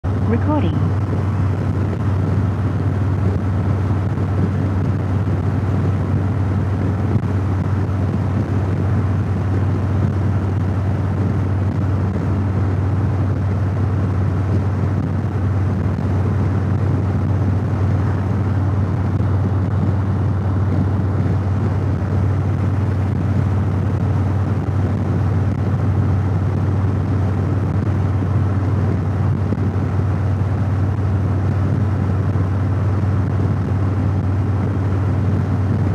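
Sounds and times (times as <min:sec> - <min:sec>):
motorcycle engine hum: 0:00.0 - 0:35.9
wind and road rush: 0:00.0 - 0:35.9.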